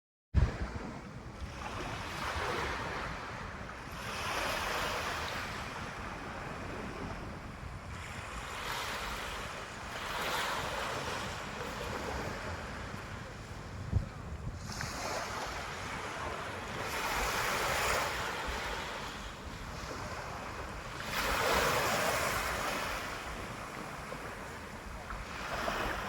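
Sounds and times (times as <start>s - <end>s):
ocean waves breaking: 0.4s - 26.0s
wind rumble on microphone: 0.4s - 26.0s.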